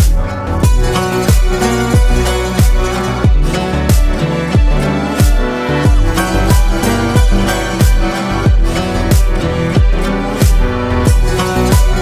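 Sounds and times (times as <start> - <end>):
deep bass drum beat: 0.0 - 12.0
sustained instrumental notes: 0.0 - 12.0.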